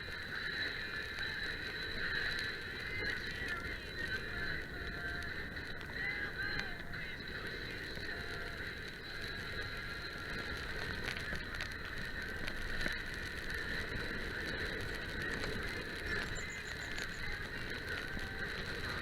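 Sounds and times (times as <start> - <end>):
bike drivetrain rattling and clicking: 0.0 - 19.0.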